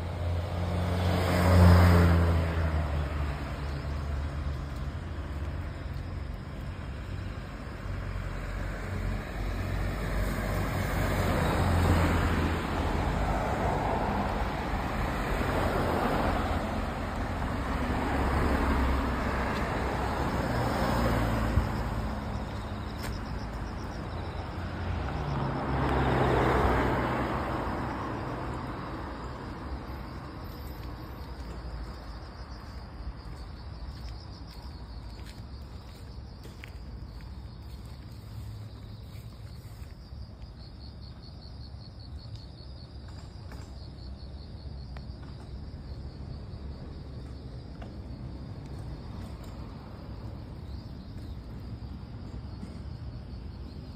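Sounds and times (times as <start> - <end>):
vehicles passing on road: 0.0 - 53.9.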